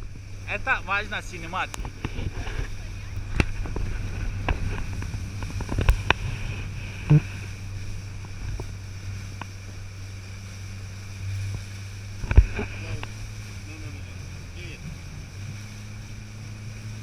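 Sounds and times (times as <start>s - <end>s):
speedboat engine humming: 0.0s - 17.0s.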